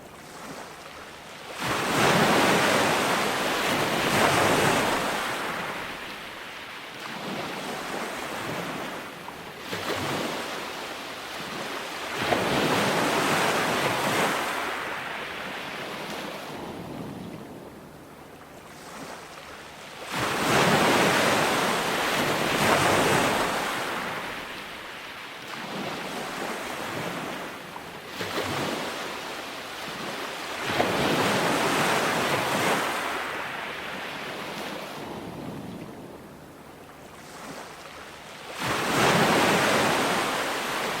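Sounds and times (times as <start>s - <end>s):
waves breaking on a beach: 0.0s - 41.0s.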